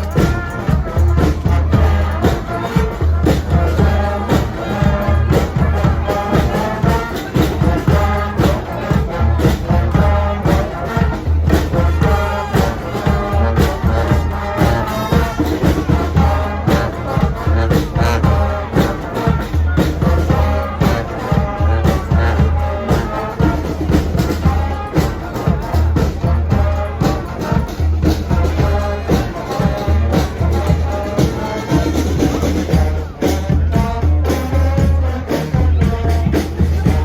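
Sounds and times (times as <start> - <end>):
steady drum beat: 0.0 - 37.0
street band playing horns: 0.0 - 37.0.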